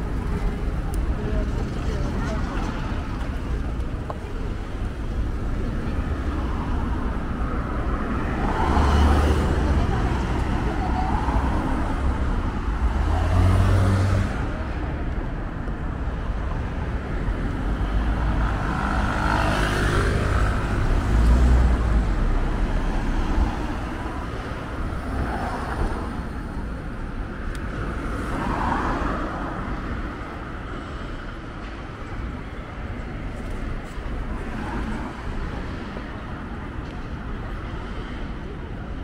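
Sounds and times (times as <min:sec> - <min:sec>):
cars passing with low rumble: 0:00.0 - 0:39.0.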